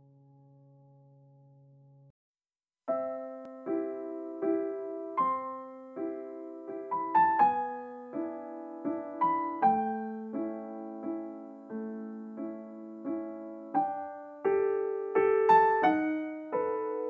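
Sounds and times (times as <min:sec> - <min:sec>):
slow piano piece: 0:02.9 - 0:17.0.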